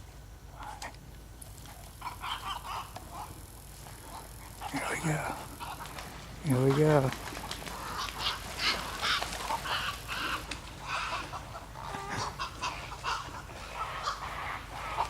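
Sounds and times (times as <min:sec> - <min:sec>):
waterbirds calling: 0:01.4 - 0:15.0.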